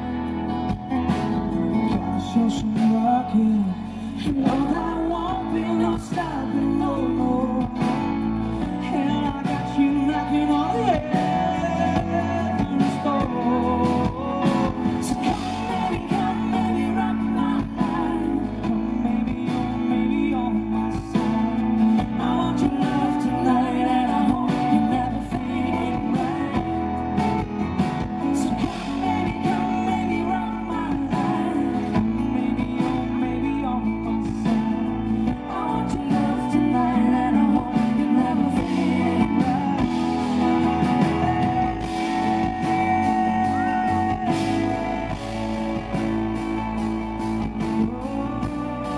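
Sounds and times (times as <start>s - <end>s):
man singing: 0.0s - 48.9s
woman singing: 1.9s - 48.9s.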